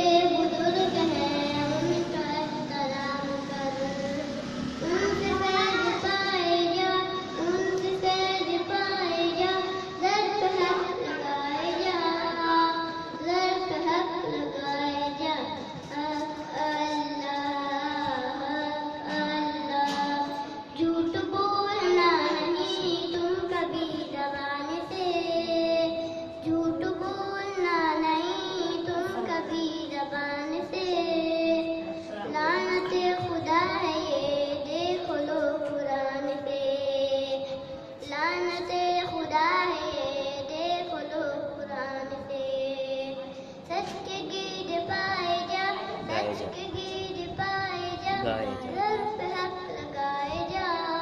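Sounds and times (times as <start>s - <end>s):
boy singing into a microphone: 0.0s - 51.0s.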